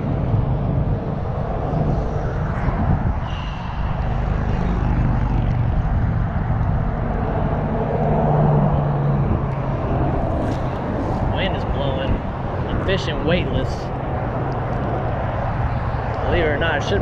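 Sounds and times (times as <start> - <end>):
low engine drone: 0.0 - 17.0
wind buffeting microphone: 0.0 - 17.0.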